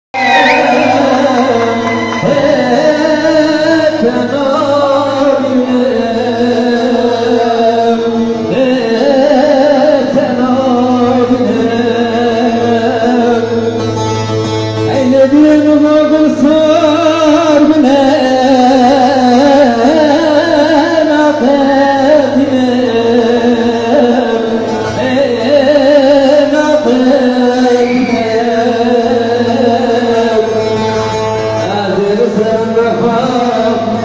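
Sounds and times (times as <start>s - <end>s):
low accompaniment: 0.2s - 34.0s
person singing with vibrato: 0.2s - 34.0s.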